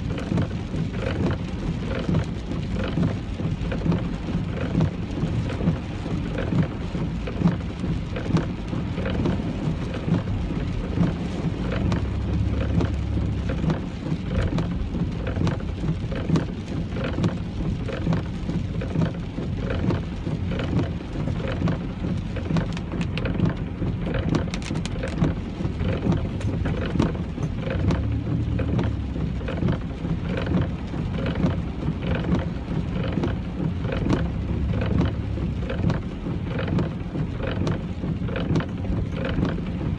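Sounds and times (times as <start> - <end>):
deeper low rumble: 0.0 - 16.3, 20.5 - 36.6
car rumble on wet road: 0.0 - 39.9
rain pelting car roof: 0.0 - 39.9.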